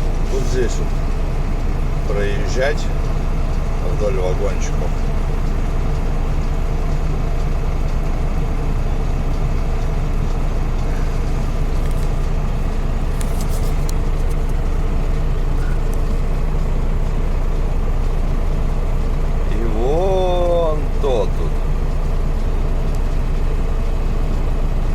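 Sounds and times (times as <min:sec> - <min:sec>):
diesel truck engine droning: 0:00.0 - 0:24.9.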